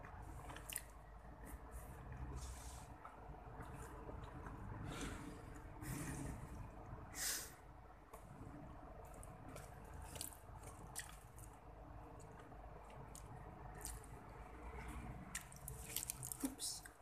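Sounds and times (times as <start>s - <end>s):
person chewing: 0.0s - 6.6s, 9.0s - 16.6s.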